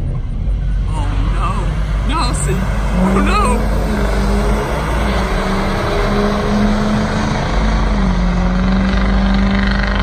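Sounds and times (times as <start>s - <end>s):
truck engine at high revs: 0.0s - 10.0s.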